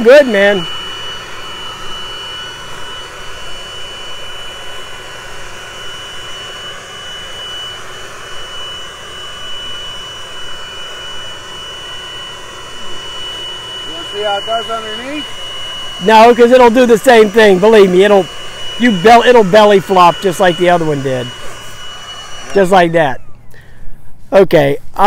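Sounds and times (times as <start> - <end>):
leaf blower running: 0.0 - 24.6.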